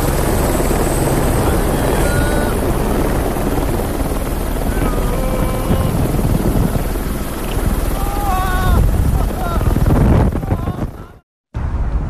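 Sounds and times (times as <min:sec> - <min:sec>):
helicopter rotor and engine rumble: 0:00.0 - 0:11.2.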